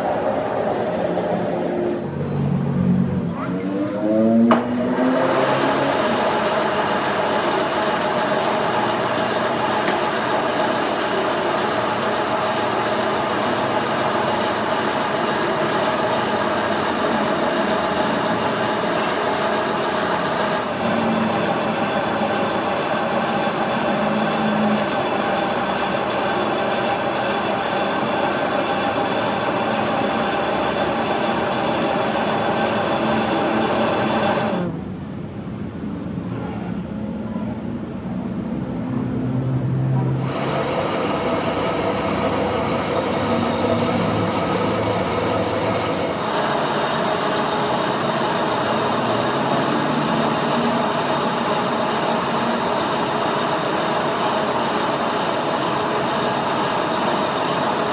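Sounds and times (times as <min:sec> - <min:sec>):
metal lathe humming and whining: 0:00.0 - 0:02.2, 0:03.2 - 0:34.7, 0:40.2 - 0:57.9.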